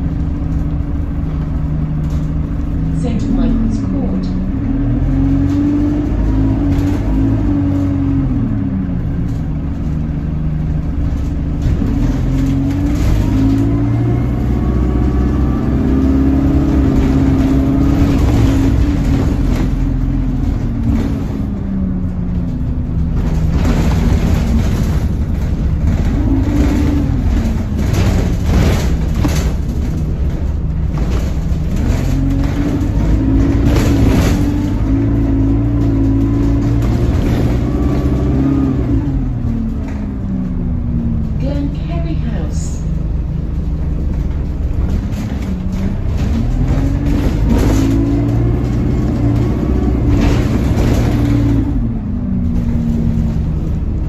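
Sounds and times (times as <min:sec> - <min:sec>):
bus engine: 0:00.0 - 0:54.0
knocks and rattles: 0:05.1 - 0:41.9, 0:43.0 - 0:54.0.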